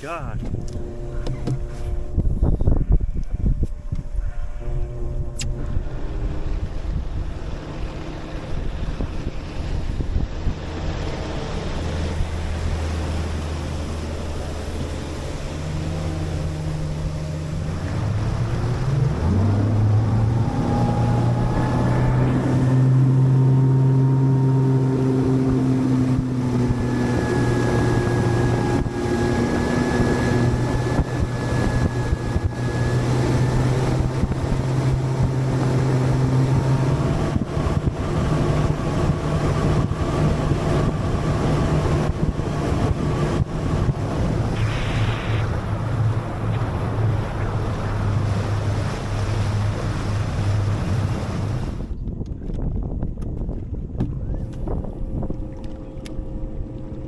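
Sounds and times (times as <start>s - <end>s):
outboard motor running: 0.0s - 57.0s
wind buffeting microphone: 0.2s - 57.0s.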